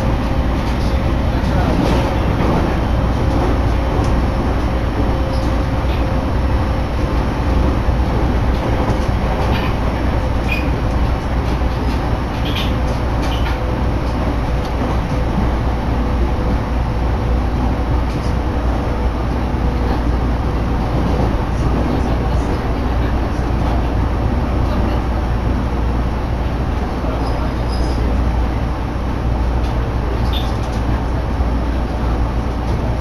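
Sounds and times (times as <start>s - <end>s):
train rumble from inside: 0.0s - 33.0s.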